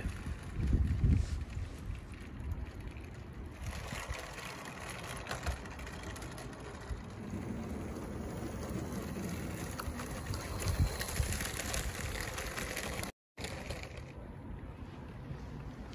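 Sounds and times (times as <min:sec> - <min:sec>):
model train wheels rattling: 0:00.0 - 0:14.2
low train rumble: 0:00.0 - 0:15.9.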